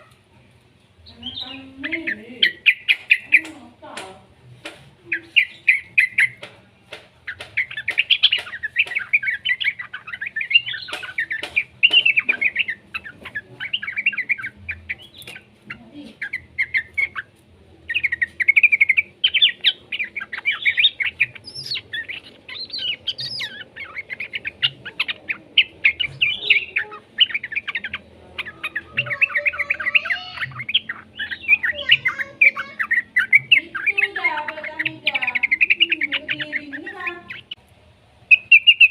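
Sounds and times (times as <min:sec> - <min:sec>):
bird chattering chirps: 0:01.0 - 0:04.2, 0:05.1 - 0:37.6, 0:38.3 - 0:38.9.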